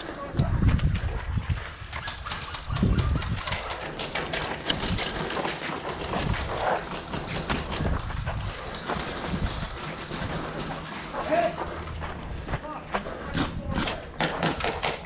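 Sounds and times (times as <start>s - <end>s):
sharp clicks and knocks: 2.0s - 12.2s, 13.0s - 15.0s.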